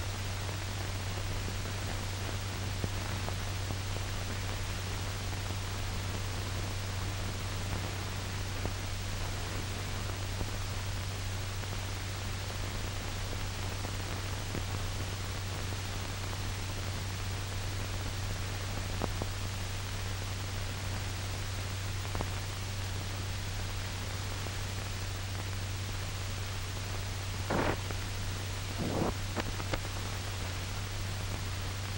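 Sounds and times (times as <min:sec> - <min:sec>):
film soundtrack hiss and hum: 0:00.0 - 0:31.9.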